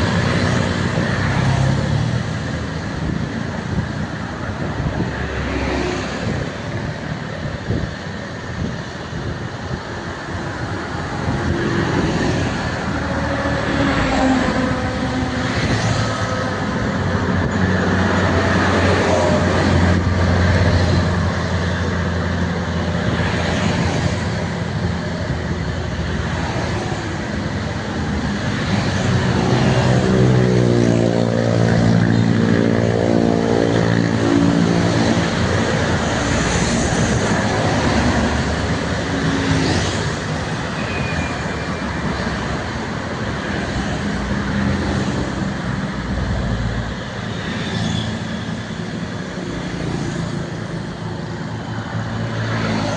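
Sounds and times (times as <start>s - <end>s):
heavy vehicle engines passing: 0.0s - 52.9s.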